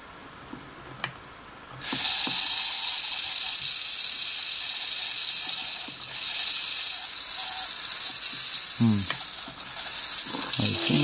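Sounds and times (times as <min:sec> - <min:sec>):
toy motor whining: 0:01.8 - 0:11.0.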